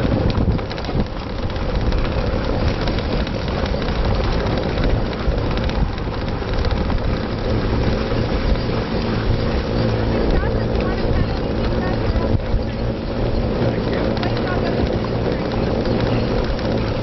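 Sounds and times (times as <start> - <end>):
cart wheels rumbling over gravel: 0.0 - 17.0
wind on microphone: 0.0 - 17.0.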